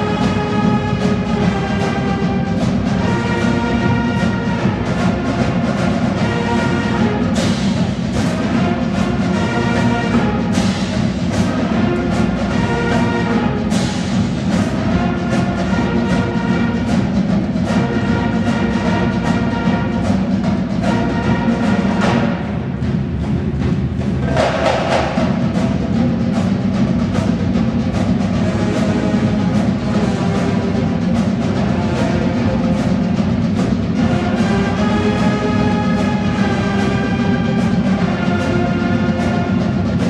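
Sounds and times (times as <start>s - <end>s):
drums keeping steady beat: 0.0s - 40.0s
marching band wind chords: 0.0s - 40.0s.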